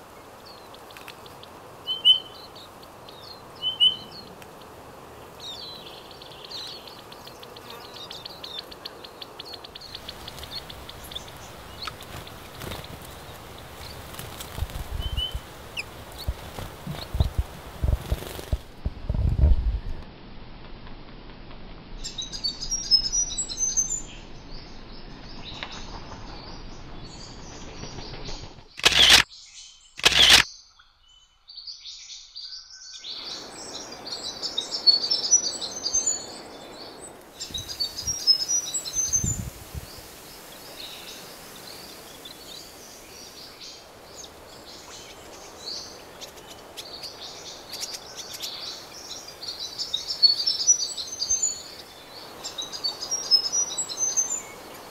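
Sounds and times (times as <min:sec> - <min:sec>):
songbirds chirping: 0:00.0 - 0:18.6, 0:22.0 - 0:54.9
low outdoor background: 0:00.0 - 0:54.9.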